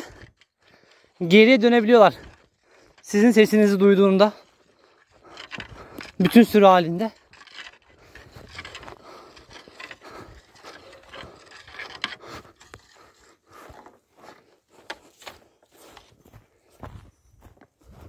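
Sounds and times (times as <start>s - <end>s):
footsteps crunching on stony ground: 0.0s - 18.0s.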